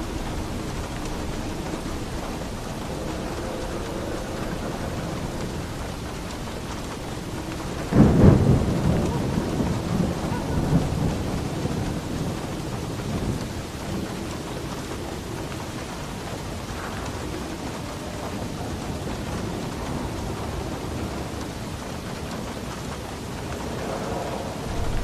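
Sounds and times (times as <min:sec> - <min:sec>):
heavy rain on a roof: 0:00.0 - 0:25.0
thunder clap and rumble: 0:00.0 - 0:25.0.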